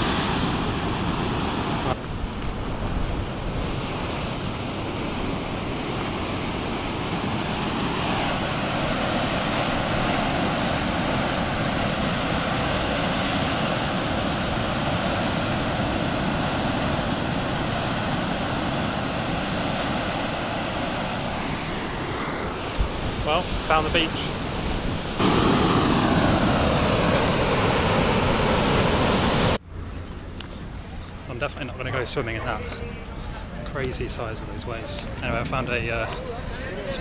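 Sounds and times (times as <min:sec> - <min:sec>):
ocean surf breaking: 0:00.0 - 0:29.6, 0:34.0 - 0:37.0
wind buffeting microphone: 0:01.7 - 0:29.6, 0:34.4 - 0:37.0.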